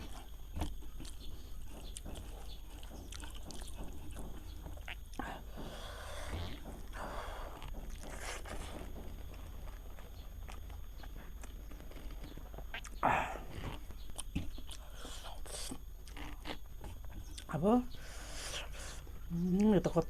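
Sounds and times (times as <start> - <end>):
chewing and biting: 0.0 - 20.0
steady low hum: 0.0 - 20.0.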